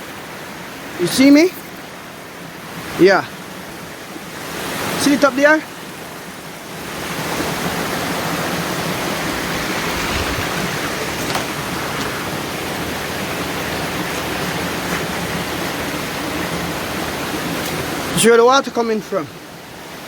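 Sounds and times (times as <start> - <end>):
water rushing over waterfall: 0.1 - 20.0.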